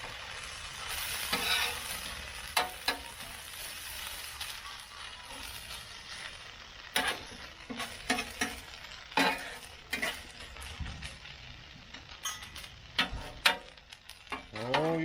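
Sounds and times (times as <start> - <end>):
metal spatula scraping griddle: 0.0 - 11.4, 12.0 - 15.0
potatoes frying sizzle: 0.0 - 15.0.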